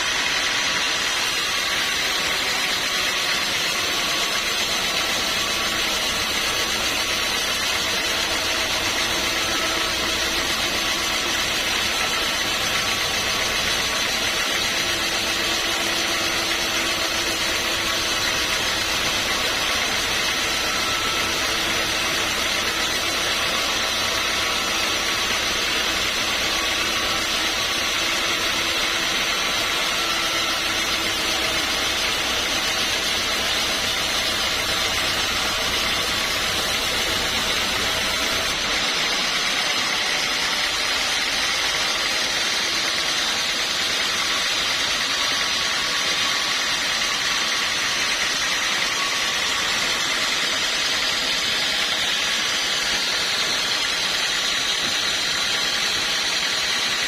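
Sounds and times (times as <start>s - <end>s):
sawmill machinery droning: 0.0s - 57.0s.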